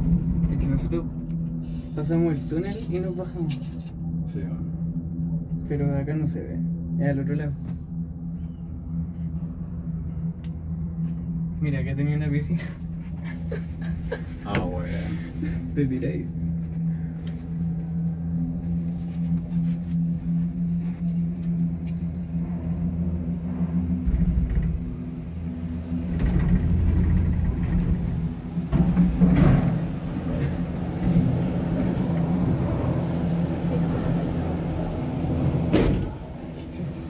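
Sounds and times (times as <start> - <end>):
cable car cabin humming: 0.0 - 37.0.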